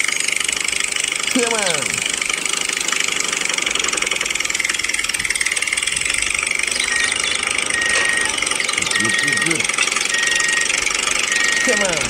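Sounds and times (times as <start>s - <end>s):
toy electric motor whirring: 0.0s - 12.0s.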